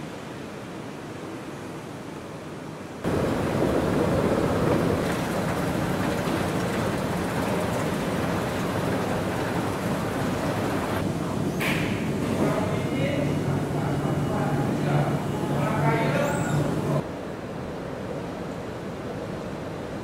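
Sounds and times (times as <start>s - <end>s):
rushing noise of large indoor space: 0.0s - 20.0s.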